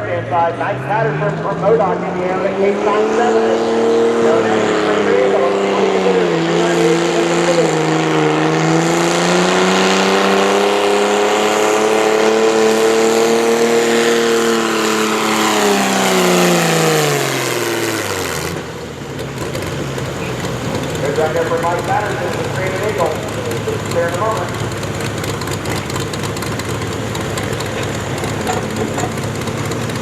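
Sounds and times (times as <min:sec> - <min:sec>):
tractor engine running hard: 0:00.0 - 0:30.0.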